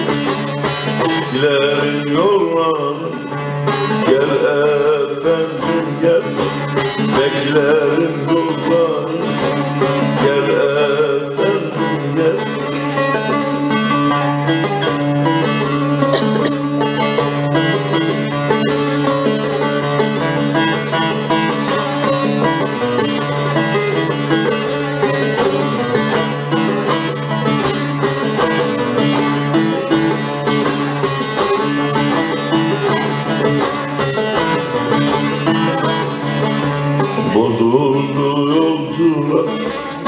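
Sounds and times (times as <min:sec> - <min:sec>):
plucked long-necked lute: 0:00.0 - 0:40.0.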